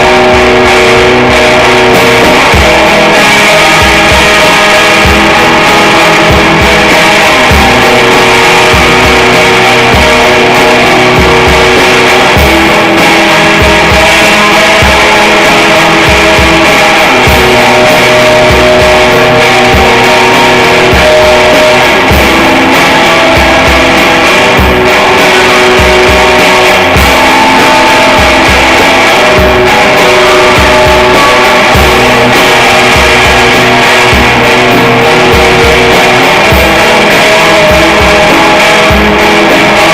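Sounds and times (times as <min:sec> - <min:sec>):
distorted electric guitars: 0:00.0 - 0:39.9.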